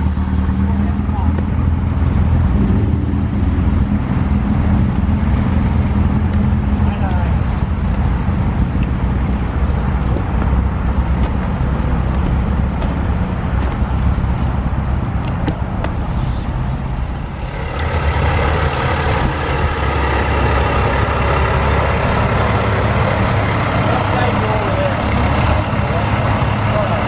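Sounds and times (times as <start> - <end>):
car engine rumble: 0.0 - 27.0
fire truck diesel engine: 0.0 - 27.0.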